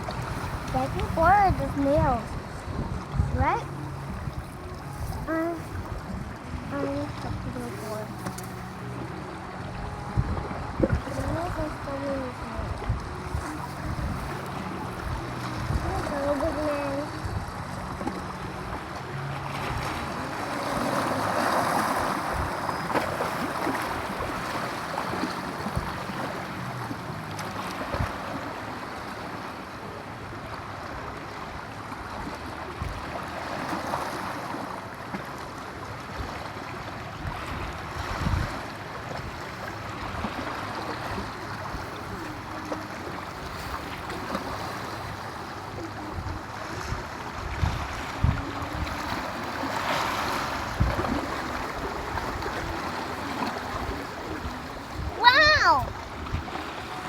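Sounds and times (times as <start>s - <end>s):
waves washing on shore: 0.0s - 57.0s
wind: 0.0s - 57.0s.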